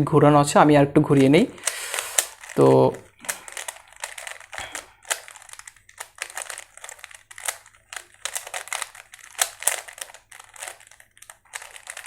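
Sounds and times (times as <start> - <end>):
puzzle cube clicking turns: 1.2 - 12.0.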